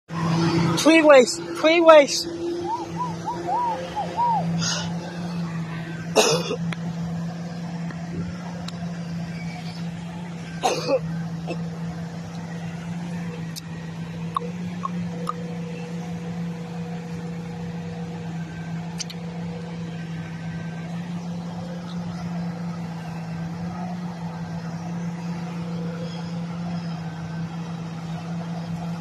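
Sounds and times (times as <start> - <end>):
garbage truck low hum: 0.1 - 29.0.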